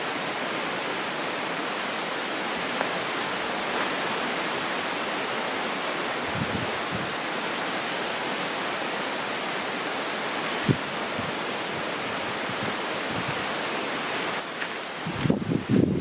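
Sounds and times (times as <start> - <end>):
river flowing: 0.0 - 16.0.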